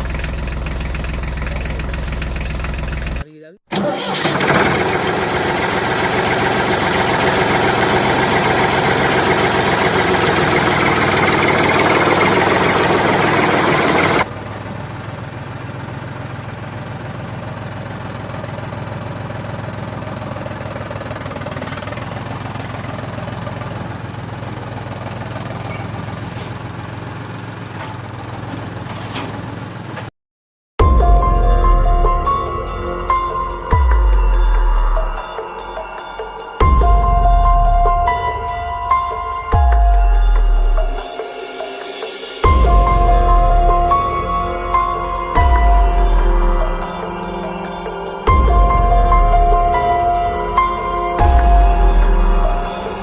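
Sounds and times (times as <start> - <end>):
tractor engine running: 0.0 - 30.1, 30.8 - 53.0.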